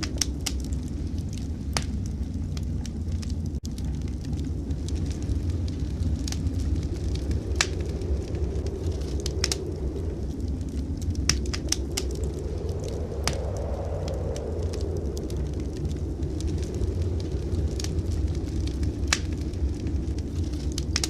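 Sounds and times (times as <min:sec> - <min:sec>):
blizzard wind rumbling: 0:00.0 - 0:21.0
fire popping and snapping: 0:00.0 - 0:21.0
wood fire crackling: 0:00.0 - 0:21.0.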